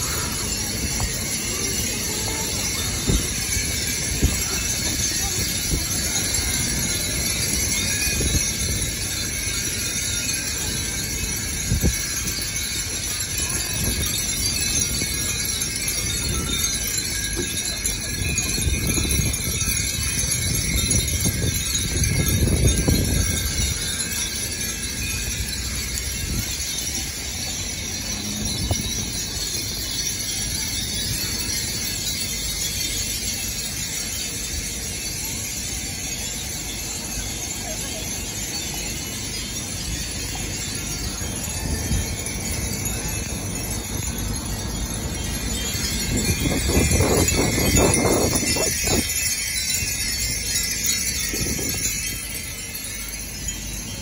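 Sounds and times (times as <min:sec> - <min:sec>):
wind chimes tinkling: 0:00.0 - 0:54.0.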